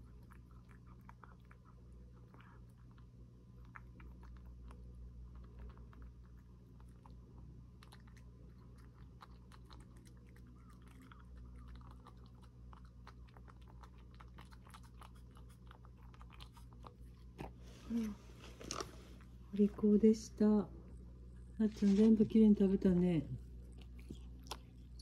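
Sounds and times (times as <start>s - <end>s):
cat chewing and crunching: 0.0s - 19.9s, 21.7s - 25.0s.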